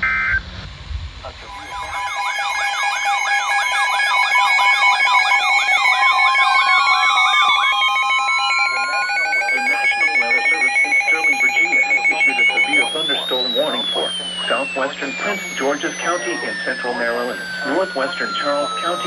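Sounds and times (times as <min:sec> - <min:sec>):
fast pulsing alarm: 0:00.0 - 0:19.0
slow rising and falling sweeps: 0:00.5 - 0:19.0
warbling siren-like tone: 0:01.2 - 0:19.0
rapid on-off beep: 0:01.3 - 0:19.0
steady beeps: 0:01.3 - 0:19.0.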